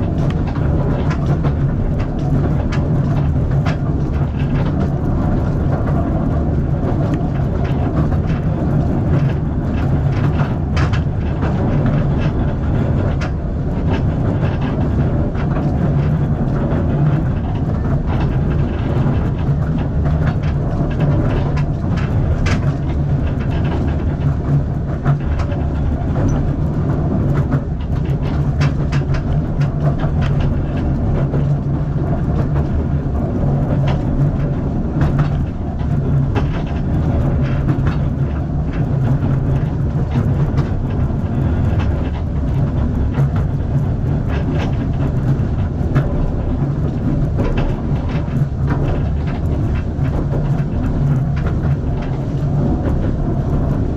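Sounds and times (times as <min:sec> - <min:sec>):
clicks and rattles: 0:00.0 - 0:53.9
train wheels rumbling on track: 0:00.0 - 0:53.9.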